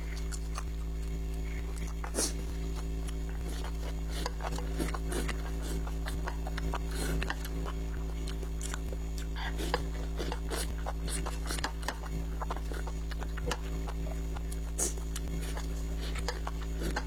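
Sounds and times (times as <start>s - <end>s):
steady low hum: 0.0s - 17.0s
wet mouth clicks and chewing: 0.0s - 17.0s.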